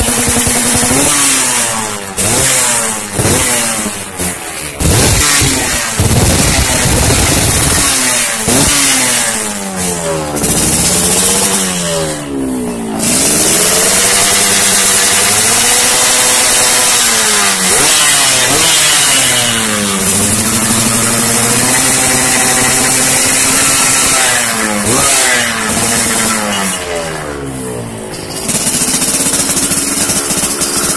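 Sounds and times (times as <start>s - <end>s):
two-stroke engine revving: 0.0s - 30.9s.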